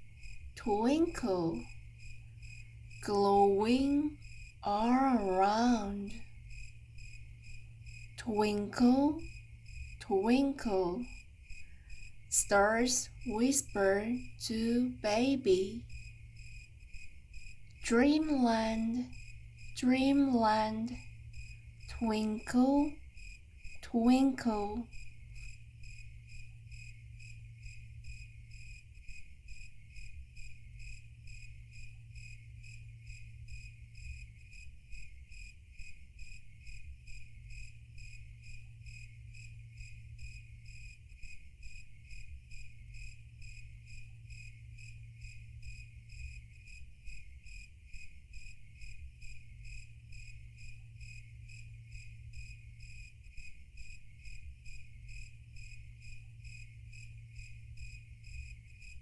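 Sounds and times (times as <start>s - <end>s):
crickets chirping: 0.0s - 59.0s
low steady hum: 0.0s - 59.0s.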